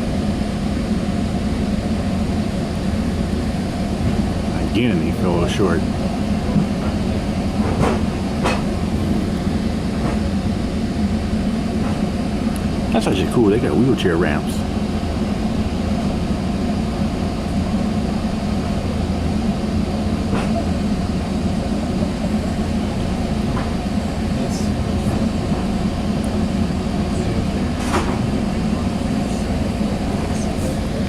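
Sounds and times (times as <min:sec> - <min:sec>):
train coach mechanical hum: 0:00.0 - 0:31.0.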